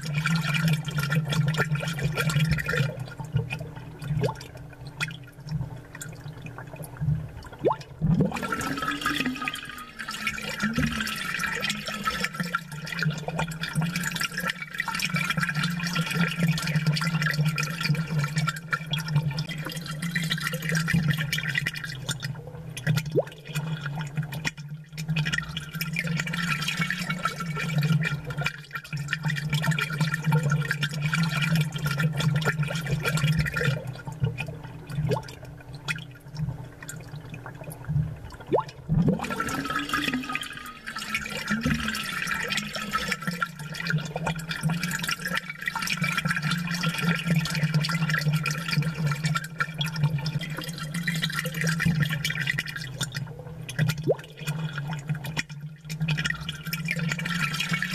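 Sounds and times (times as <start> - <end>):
aquarium air bubbles gurgling: 0.0 - 57.9
continuous low hum: 0.0 - 57.9.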